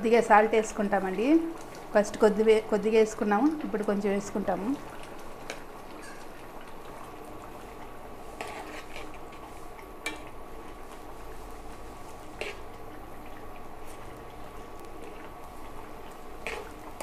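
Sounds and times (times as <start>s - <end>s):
gravy simmering in a pan: 0.0s - 17.0s.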